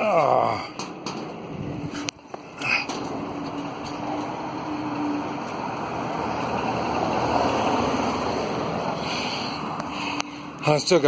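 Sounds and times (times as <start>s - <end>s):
wind and road noise from bicycle: 0.7s - 11.0s.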